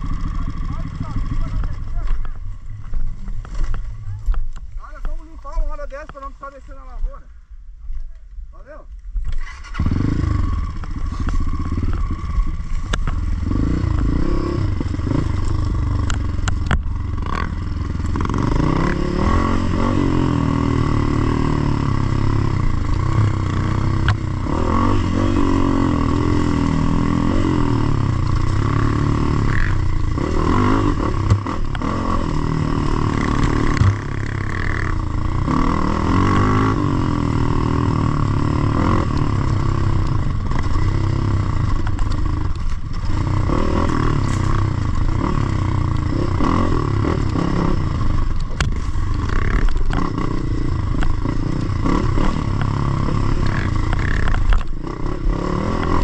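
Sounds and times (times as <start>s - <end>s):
dirt bike engine revving: 0.0s - 4.0s, 9.2s - 56.0s.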